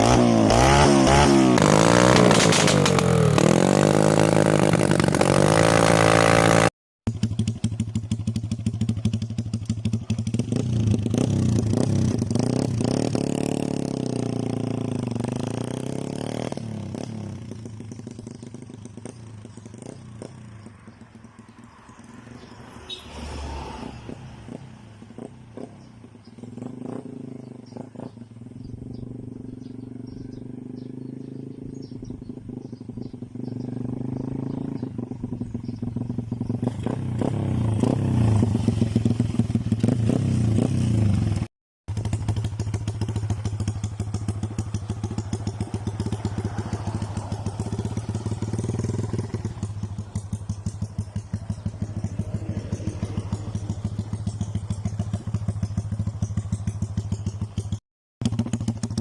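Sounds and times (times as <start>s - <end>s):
motorcycle engine running: 0.0s - 23.1s, 24.1s - 59.0s.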